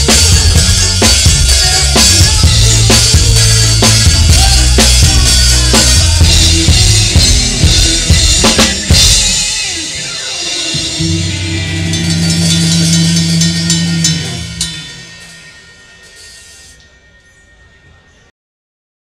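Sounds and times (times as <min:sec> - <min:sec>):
ska reggae band: 0:00.0 - 0:16.7
drum and cymbal hits: 0:00.0 - 0:17.0
ringing cymbals: 0:00.0 - 0:18.3.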